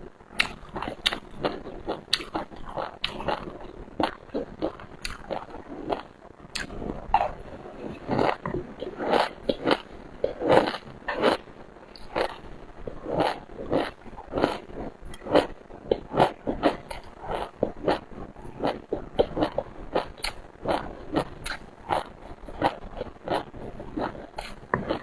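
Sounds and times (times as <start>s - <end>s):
wet bites and crunching chews: 0.4s - 25.0s.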